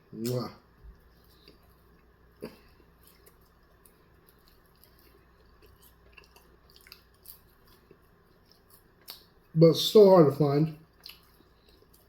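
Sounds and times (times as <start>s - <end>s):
low steady hum: 0.0s - 12.0s
chewing with wet mouth clicks: 0.2s - 9.6s, 10.8s - 12.0s.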